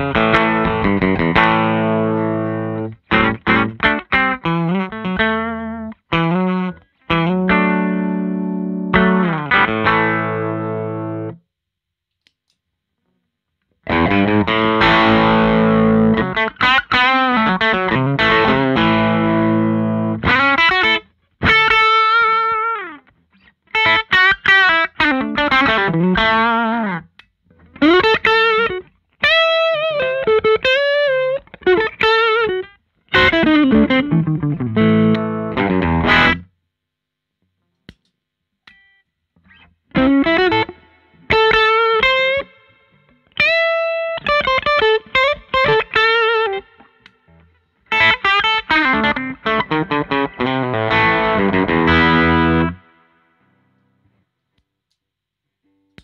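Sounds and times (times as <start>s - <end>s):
electric guitar: 0.0s - 11.4s, 13.8s - 36.5s, 38.8s - 54.2s.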